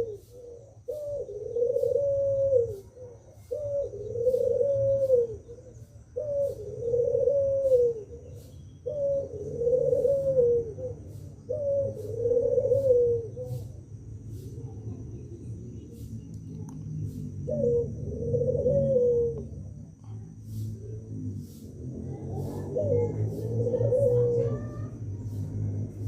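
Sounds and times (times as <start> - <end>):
dove cooing: 0.0 - 14.0, 16.6 - 26.0.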